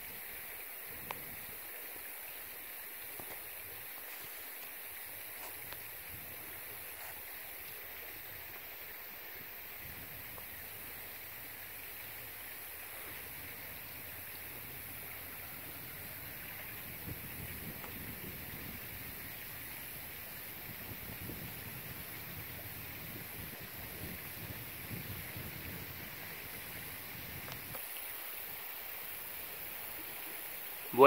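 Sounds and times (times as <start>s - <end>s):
faint forest ambience hiss: 0.0s - 31.0s.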